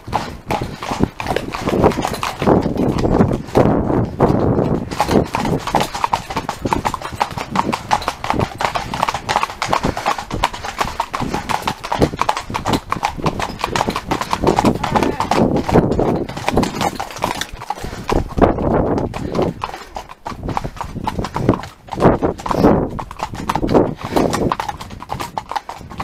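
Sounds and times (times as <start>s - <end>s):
horse hoofbeats: 0.0s - 26.0s.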